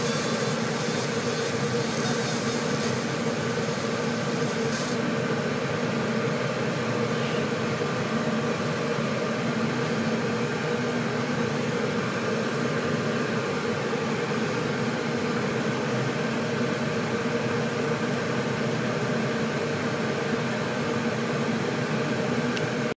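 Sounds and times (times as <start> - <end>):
cooling fans humming: 0.0 - 22.9.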